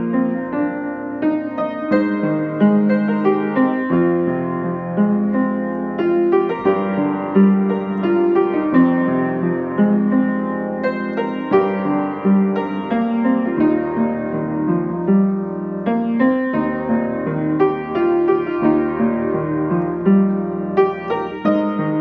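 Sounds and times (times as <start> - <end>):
solo piano melody: 0.0 - 22.0.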